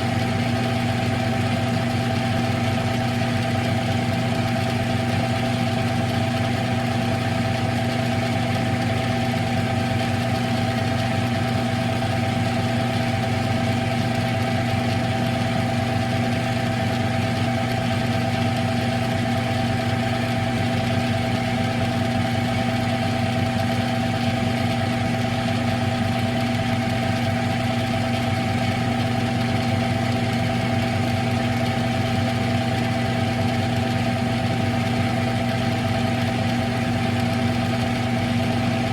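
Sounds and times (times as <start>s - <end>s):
lathe humming: 0.0s - 38.9s.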